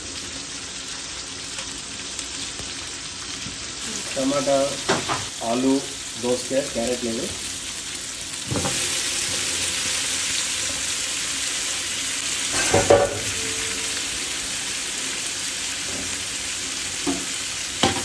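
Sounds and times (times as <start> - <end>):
vegetables sizzling in hot fat: 0.0 - 18.0.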